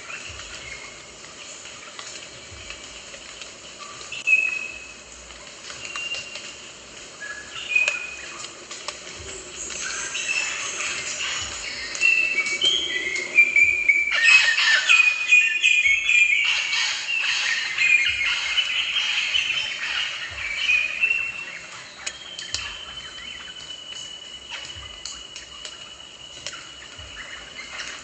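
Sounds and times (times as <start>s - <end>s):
rosellas calling: 0.0s - 28.0s.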